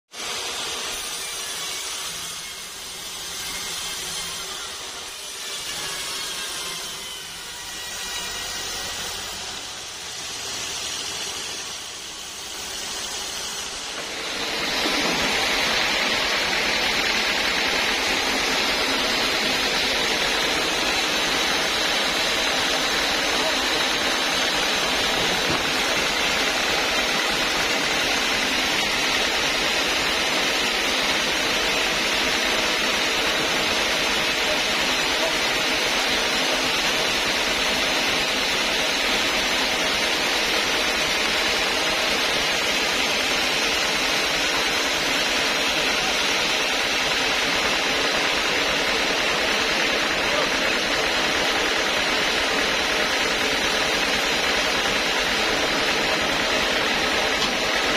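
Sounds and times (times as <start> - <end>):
sawmill machine noise: 0.1 - 57.9.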